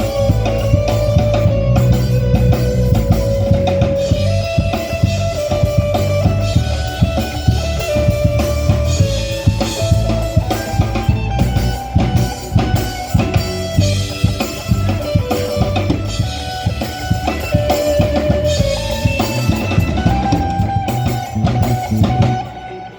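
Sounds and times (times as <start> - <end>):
bass: 0.0 - 22.9
drum kit beat: 0.0 - 22.9
guitars playing melody: 0.0 - 22.9.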